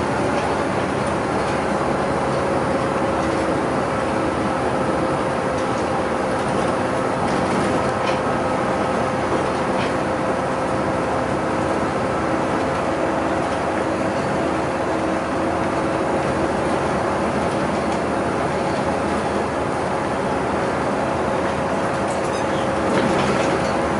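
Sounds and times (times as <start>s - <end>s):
bus engine: 0.0s - 23.9s
road noise: 0.0s - 23.9s.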